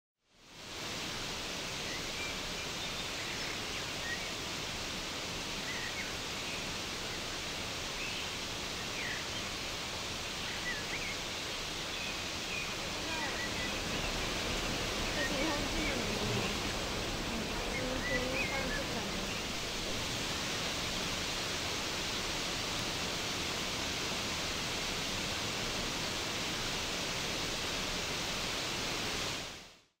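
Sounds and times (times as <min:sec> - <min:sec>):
mountain stream rushing: 0:00.4 - 0:29.9.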